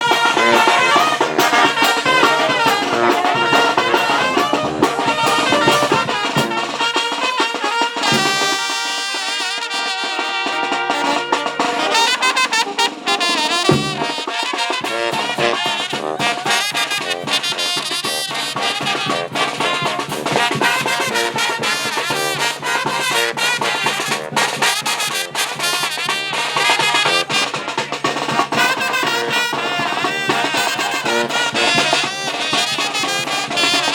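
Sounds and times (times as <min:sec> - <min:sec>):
brass band playing: 0:00.0 - 0:33.9
drum beat: 0:00.0 - 0:33.9.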